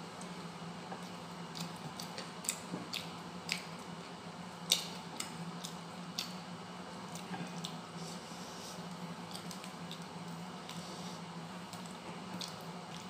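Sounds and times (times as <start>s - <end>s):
person chewing with smacking lips: 0.9s - 3.9s, 4.7s - 6.4s, 7.0s - 13.0s.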